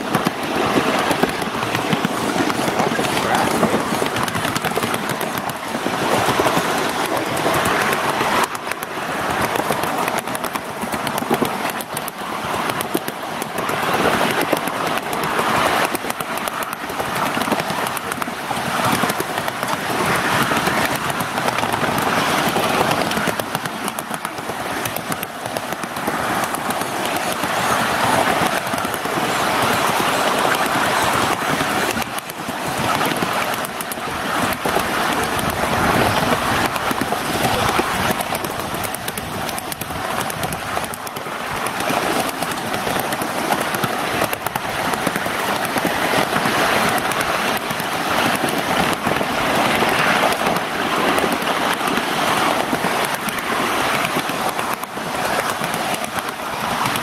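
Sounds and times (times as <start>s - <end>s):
miniature train wheels rattling: 0.0s - 57.0s.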